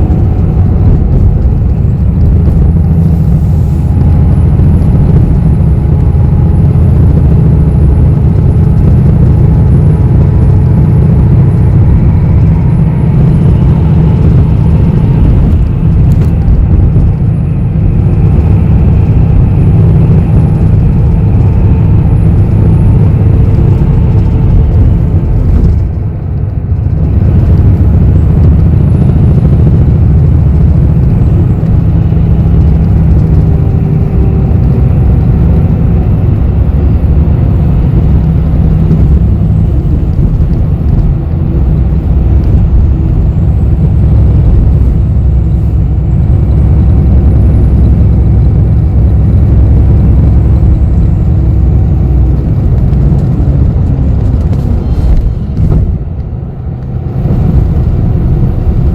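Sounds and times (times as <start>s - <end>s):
bus engine and road noise: 0.0s - 58.9s.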